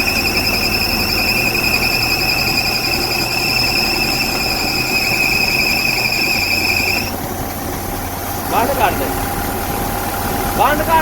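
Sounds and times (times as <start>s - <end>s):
diesel engine with high-pitched whine: 0.0s - 11.0s.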